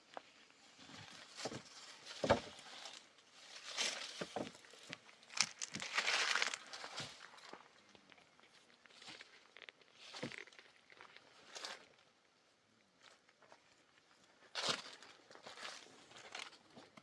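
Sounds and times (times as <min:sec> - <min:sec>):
rustling and crinkling: 0:00.0 - 0:12.1, 0:13.0 - 0:17.0.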